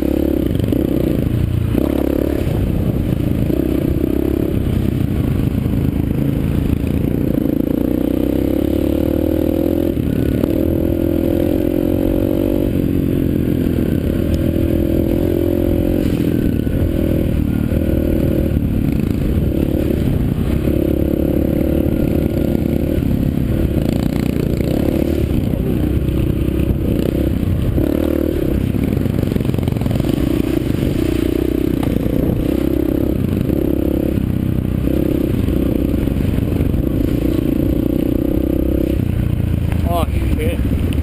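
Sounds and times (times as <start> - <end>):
dirt bike engine revving: 0.0 - 40.8.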